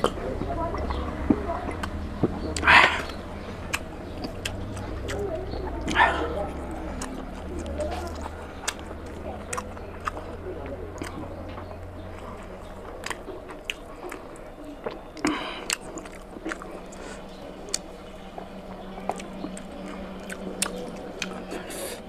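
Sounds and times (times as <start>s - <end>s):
person chewing meat: 0.0s - 22.0s.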